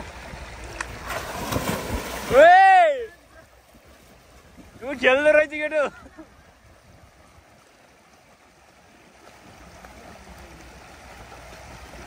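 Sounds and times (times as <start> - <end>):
flowing river water: 0.0 - 12.0.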